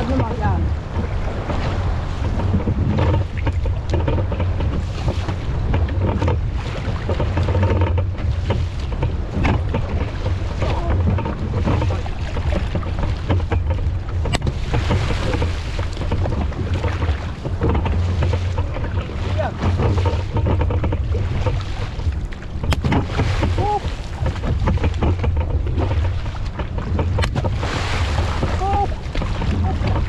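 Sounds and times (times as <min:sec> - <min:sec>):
choppy water slapping canoe: 0:00.0 - 0:30.0
wind buffeting microphone: 0:00.0 - 0:30.0
sharp knocks: 0:01.4 - 0:30.0.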